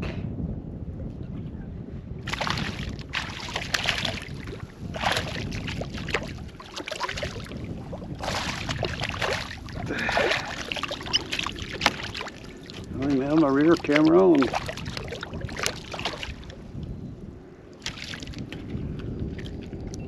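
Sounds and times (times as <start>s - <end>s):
wind rumble on microphone: 0.0s - 20.0s
water splashing and sloshing: 2.2s - 20.0s.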